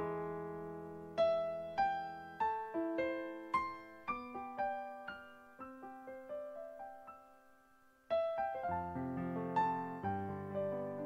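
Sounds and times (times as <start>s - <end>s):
slow piano notes: 0.0s - 11.0s.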